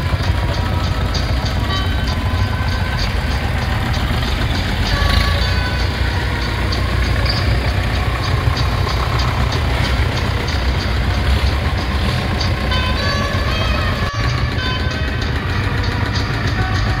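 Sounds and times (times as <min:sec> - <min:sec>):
tractor engines running: 0:00.0 - 0:17.0.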